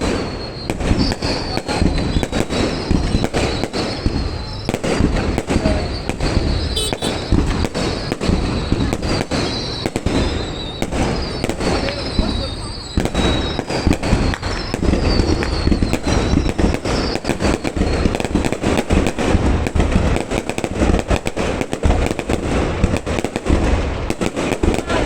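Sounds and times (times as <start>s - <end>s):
deep fireworks booms: 0.0s - 25.0s
fireworks bangs and pops: 0.0s - 25.0s.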